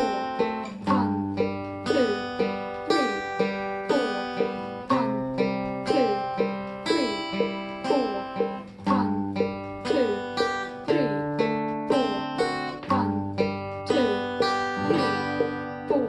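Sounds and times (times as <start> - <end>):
acoustic guitar picking chords: 0.0 - 16.0.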